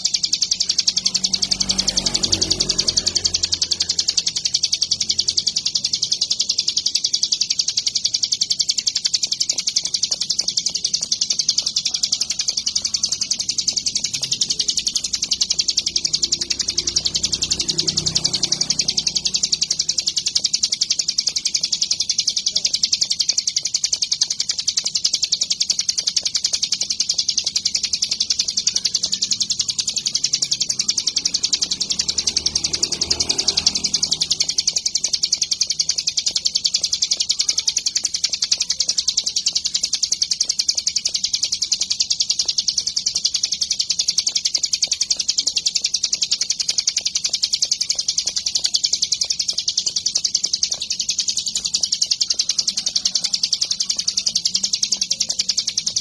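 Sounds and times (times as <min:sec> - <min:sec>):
prinia trilling song: 0:00.0 - 0:56.0.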